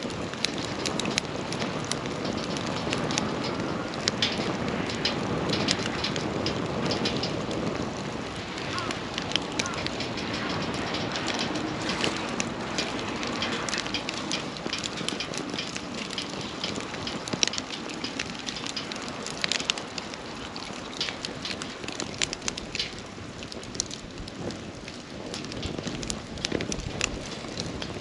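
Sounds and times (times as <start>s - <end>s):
hiss of burning: 0.0s - 24.8s
campfire crackling and popping: 0.0s - 28.0s.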